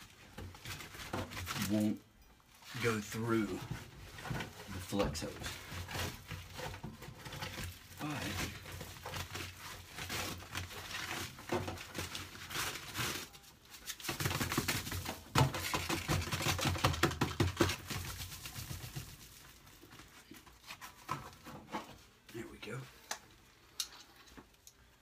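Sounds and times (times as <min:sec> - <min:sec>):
foil duct crinkling: 0:00.0 - 0:02.0, 0:02.6 - 0:21.2.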